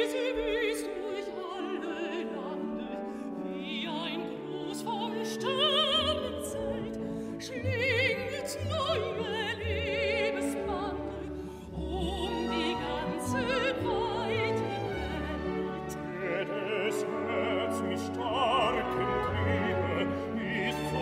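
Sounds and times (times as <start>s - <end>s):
symphony orchestra with flute: 0.0s - 21.0s
woman singing operatically: 0.0s - 21.0s.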